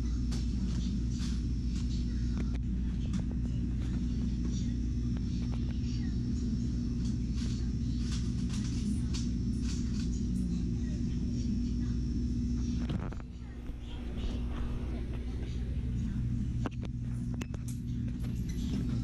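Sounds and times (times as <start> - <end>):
store interior hum: 0.0 - 19.0.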